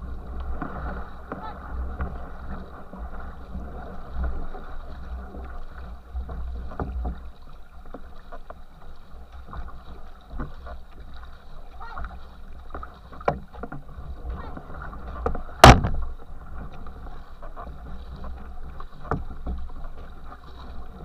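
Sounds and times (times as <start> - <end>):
water rushing in boat wake: 0.0 - 21.0
water splashes: 0.0 - 21.0.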